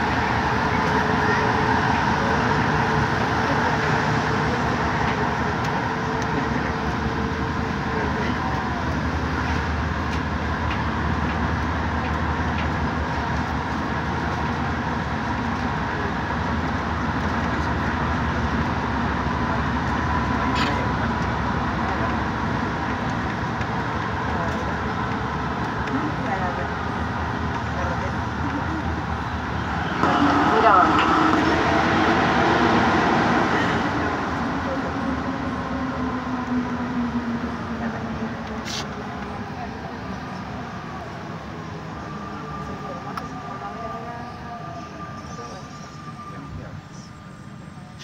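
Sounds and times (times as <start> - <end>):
train rolling on track: 0.0 - 48.0.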